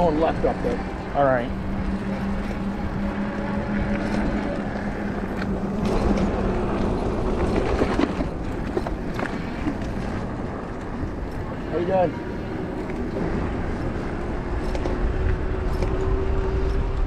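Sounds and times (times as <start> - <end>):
electric motor hum: 0.0 - 17.0
rumble of wind and tyres: 0.0 - 17.0.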